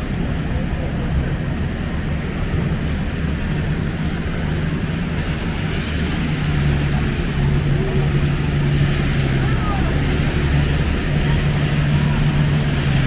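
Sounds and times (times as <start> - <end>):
city street traffic rumble: 0.0 - 13.0
low engine hum: 0.0 - 13.0.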